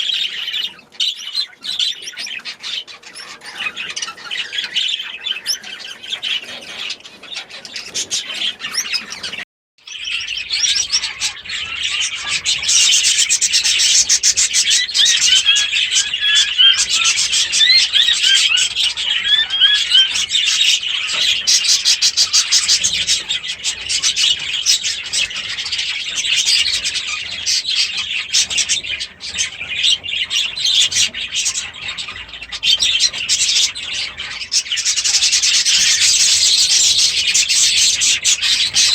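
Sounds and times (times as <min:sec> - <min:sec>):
caged birds chattering and chirping: 0:00.0 - 0:38.9.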